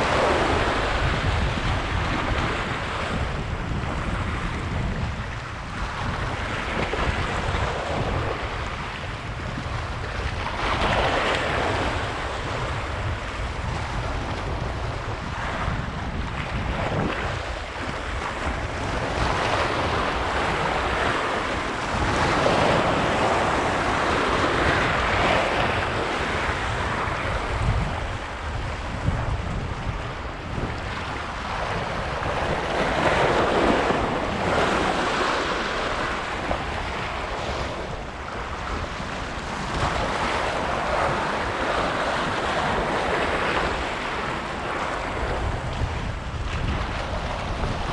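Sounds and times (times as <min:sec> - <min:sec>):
sea waves washing onto shore: 0:00.0 - 0:47.9
wind buffeting microphone: 0:00.0 - 0:47.9.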